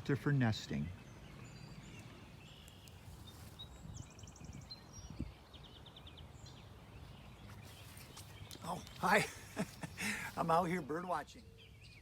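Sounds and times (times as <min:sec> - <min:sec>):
songbird chirping and trilling: 0:00.0 - 0:12.0.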